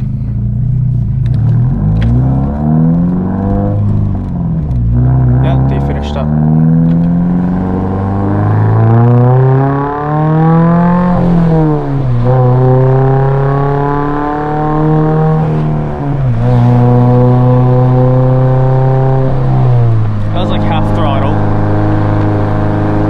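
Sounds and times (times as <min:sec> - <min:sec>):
car engine revving through gears: 0:00.0 - 0:23.0.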